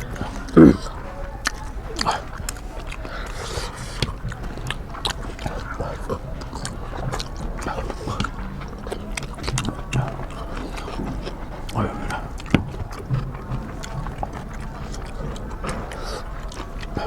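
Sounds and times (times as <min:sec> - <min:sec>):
mouth and lip clicks: 0:00.0 - 0:17.0
people chewing food: 0:00.0 - 0:17.0.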